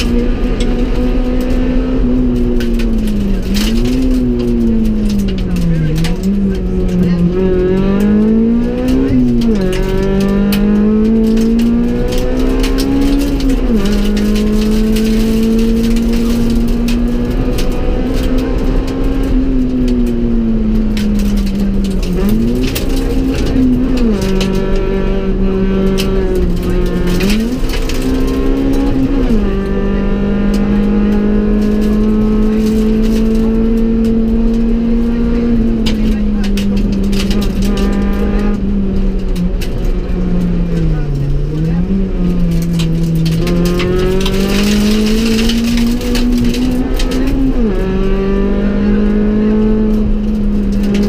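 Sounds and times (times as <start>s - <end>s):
car engine driven hard: 0.0s - 51.0s
road noise: 0.0s - 51.0s.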